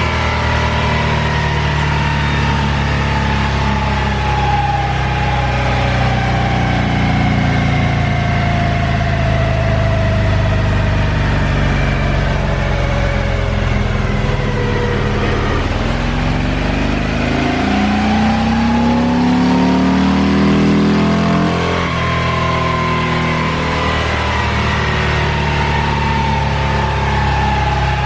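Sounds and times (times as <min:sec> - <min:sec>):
motorcycle engine running: 0:00.0 - 0:28.0
whine falling in pitch: 0:00.0 - 0:28.0.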